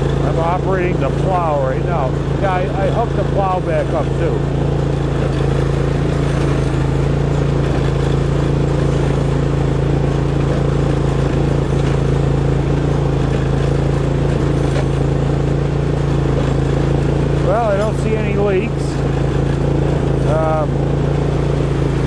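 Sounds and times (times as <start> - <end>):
lawn tractor engine running: 0.0 - 22.0.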